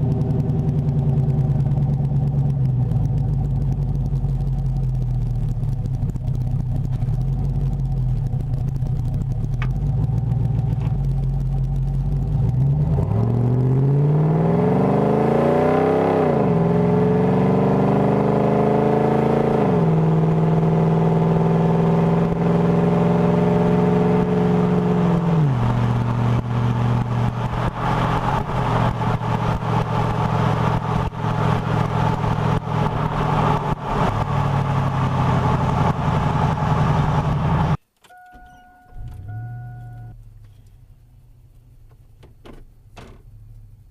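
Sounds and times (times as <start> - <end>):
truck engine idling and revving: 0.0 - 43.9.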